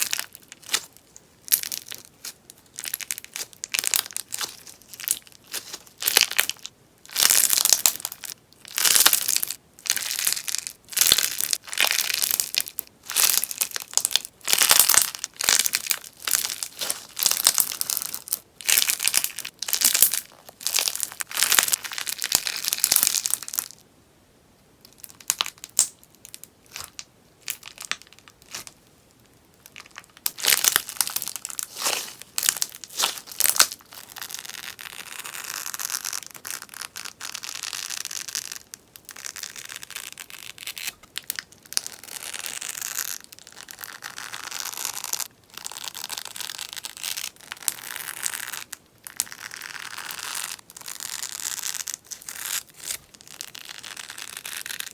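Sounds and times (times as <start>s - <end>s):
slime popping and crackling: 0.0s - 23.7s, 29.7s - 54.9s.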